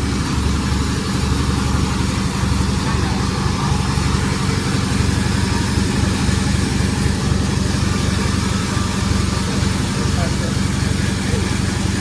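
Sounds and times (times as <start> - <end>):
sawmill engine humming: 0.0 - 12.0.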